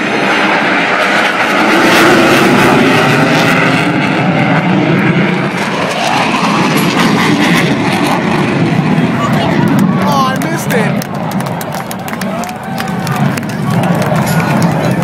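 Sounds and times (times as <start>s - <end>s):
aircraft engines roaring past: 0.0s - 15.0s.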